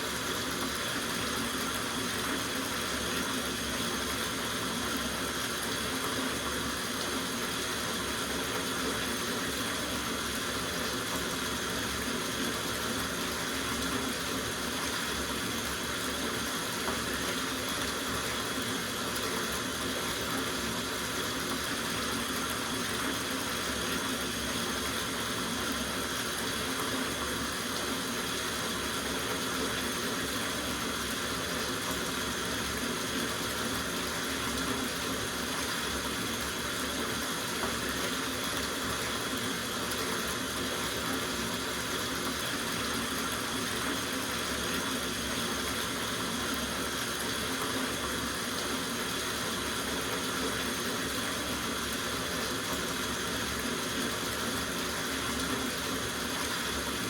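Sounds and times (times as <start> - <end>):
tap water running into bathtub: 0.0 - 57.0.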